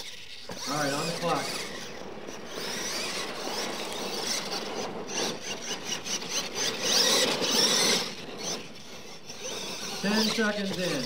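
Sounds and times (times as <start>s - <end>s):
rc truck motor whine: 0.0s - 11.0s
tyres scrabbling in dirt: 0.0s - 11.0s.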